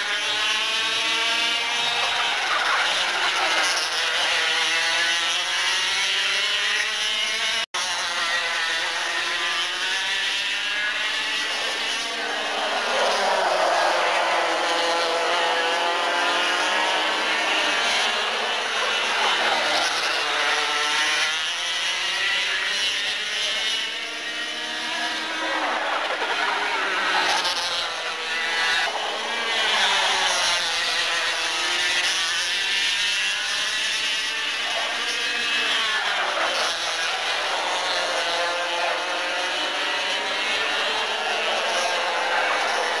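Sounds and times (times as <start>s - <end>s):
kart engines racing: 0.0s - 43.0s.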